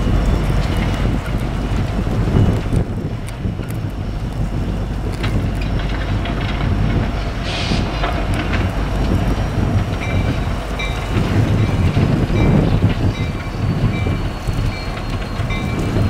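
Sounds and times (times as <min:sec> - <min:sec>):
freight train rumbling by: 0:00.0 - 0:16.0
wheels clicking on rail: 0:00.0 - 0:16.0.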